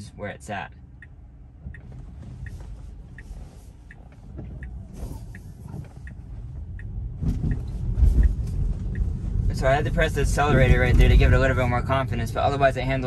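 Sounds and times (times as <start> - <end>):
road noise inside car: 0.0 - 13.0
turn signal ticking: 0.5 - 13.0.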